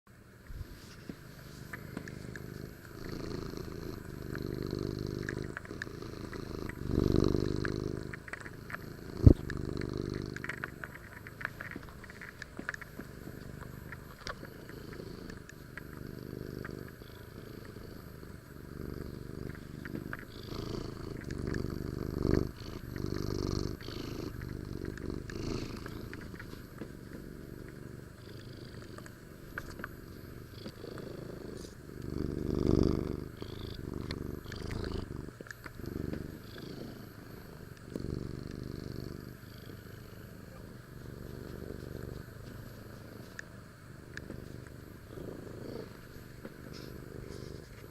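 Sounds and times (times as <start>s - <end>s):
kitten purring: 0.4s - 47.9s.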